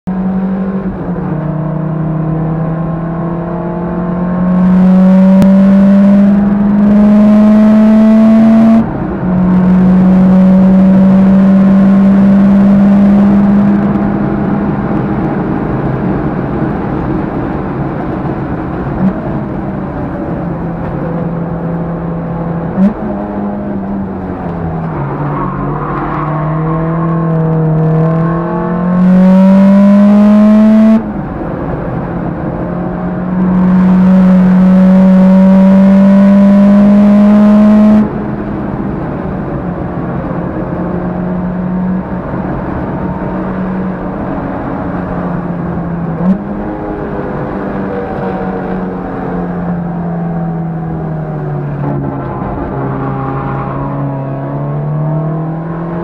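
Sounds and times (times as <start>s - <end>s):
car engine revving: 0.1s - 56.0s.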